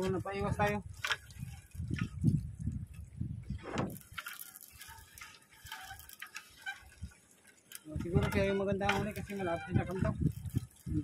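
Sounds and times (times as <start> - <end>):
net rustling and clicking: 0.0 - 11.0.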